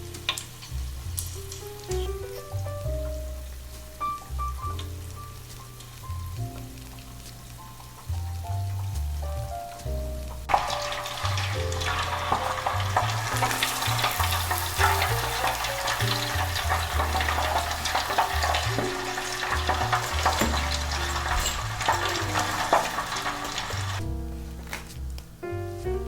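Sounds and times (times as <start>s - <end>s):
deep-frying sizzle with pops: 0.0s - 24.1s.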